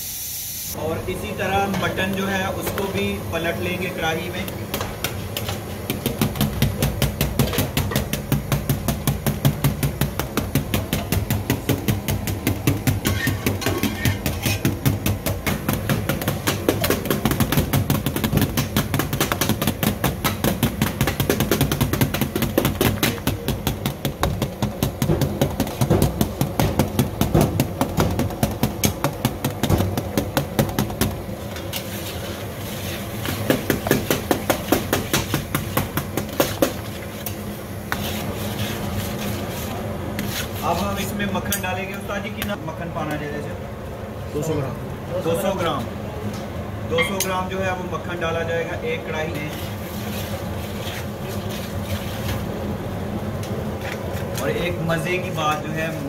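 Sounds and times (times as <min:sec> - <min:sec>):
steady low hum: 0:00.7 - 0:56.0.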